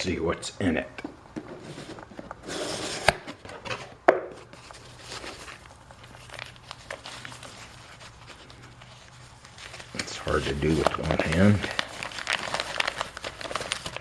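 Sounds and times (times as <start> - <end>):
cardboard and packing rustling: 1.1 - 14.0.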